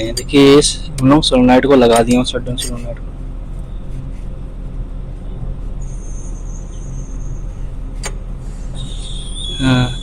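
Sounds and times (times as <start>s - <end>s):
faint high whine: 0.0s - 10.0s
motor throbbing steadily: 0.0s - 10.0s.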